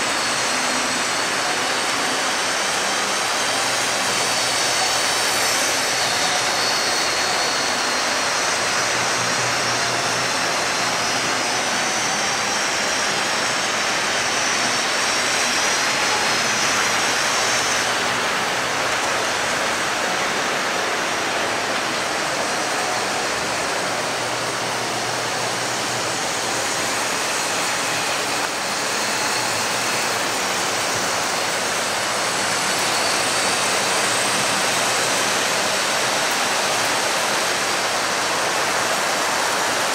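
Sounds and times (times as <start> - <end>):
faint high whine: 0.0 - 39.9
model trains whirring: 0.0 - 39.9.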